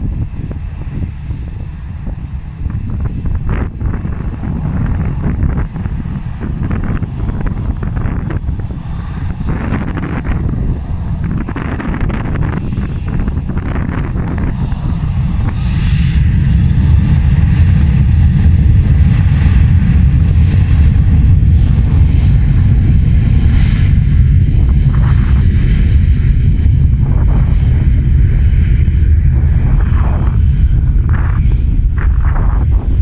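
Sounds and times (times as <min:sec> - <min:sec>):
airliner engines rumbling: 0:00.0 - 0:33.0.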